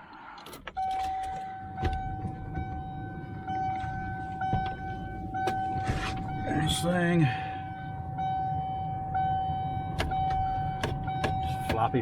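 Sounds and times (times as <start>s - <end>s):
steady warning chime tone: 0.7s - 12.0s.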